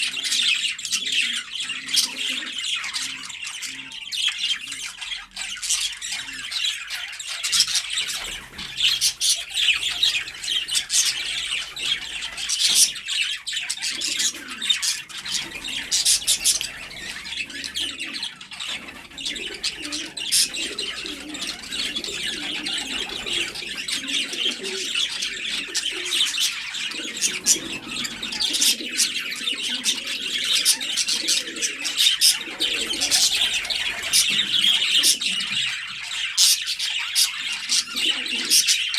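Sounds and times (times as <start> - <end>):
pigeons cooing: 0.0 - 38.9
small birds chirping: 0.0 - 38.9.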